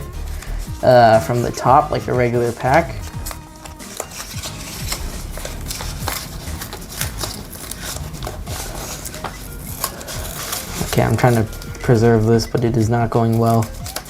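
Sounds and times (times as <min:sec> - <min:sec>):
card pack packaging crinkling: 0:00.0 - 0:14.0.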